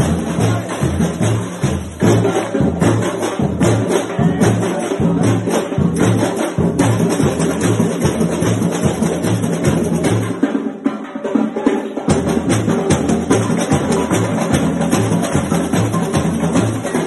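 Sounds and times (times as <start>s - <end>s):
fast higher drums: 0.0s - 17.0s
wood block percussion: 0.0s - 17.0s.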